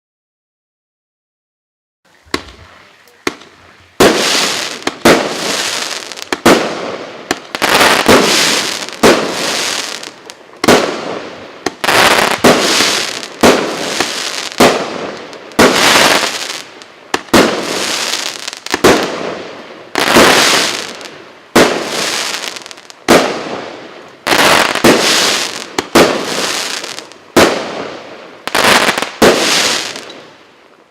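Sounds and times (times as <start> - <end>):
firework bangs with hiss: 2.2 - 30.7.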